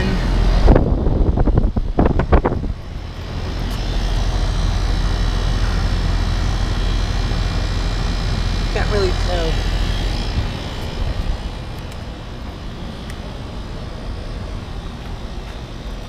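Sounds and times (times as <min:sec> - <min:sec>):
heat pump fan whoosh: 0:00.0 - 0:16.0
low compressor hum: 0:00.0 - 0:16.0.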